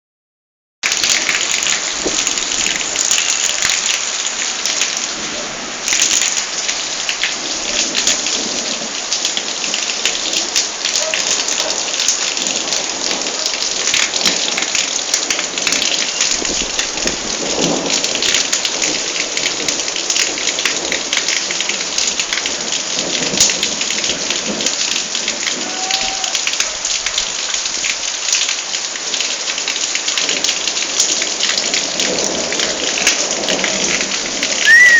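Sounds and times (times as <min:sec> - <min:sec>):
heavy rain pouring: 0:00.8 - 0:34.9.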